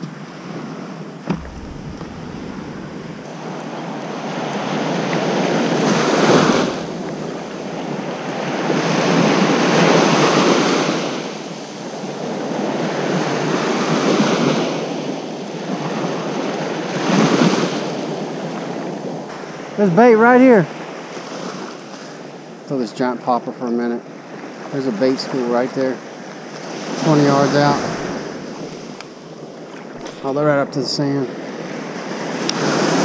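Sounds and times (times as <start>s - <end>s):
small waves breaking on sand: 1.3s - 33.0s.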